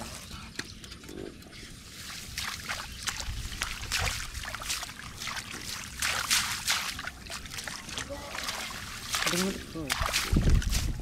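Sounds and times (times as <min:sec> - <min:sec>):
shallow water splashing: 0:01.8 - 0:11.0.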